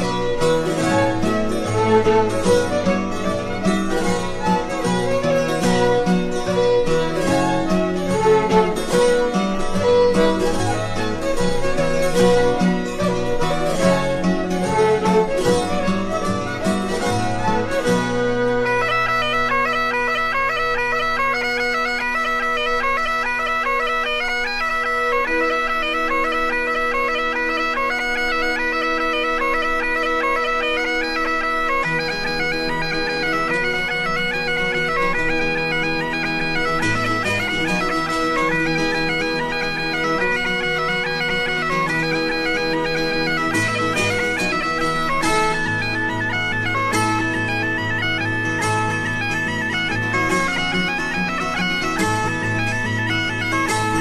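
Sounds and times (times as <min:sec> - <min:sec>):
bagpipes playing with drones: 0:00.0 - 0:54.0.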